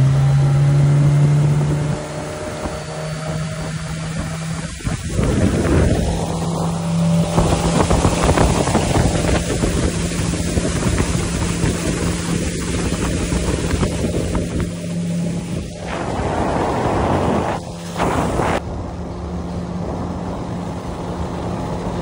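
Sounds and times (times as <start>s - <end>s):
outboard motor running: 0.0s - 22.0s
water rushing along hull: 0.0s - 22.0s
wind buffeting microphone: 1.2s - 22.0s.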